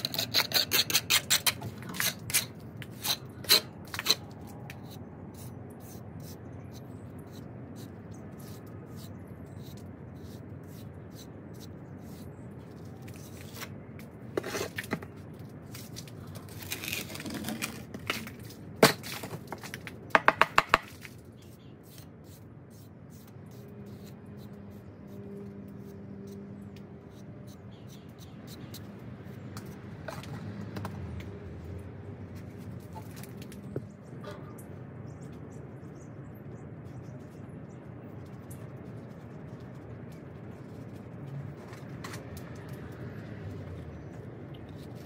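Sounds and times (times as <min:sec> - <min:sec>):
steady background noise: 0:00.0 - 0:45.0.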